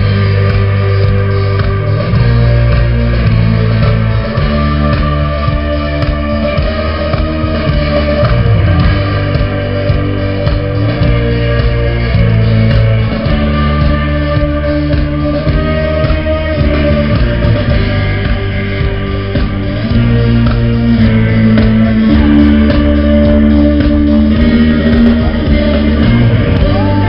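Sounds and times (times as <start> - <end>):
guitar: 0.0 - 27.0
held bass notes: 0.0 - 27.0
rock band playing loudly: 0.0 - 27.0.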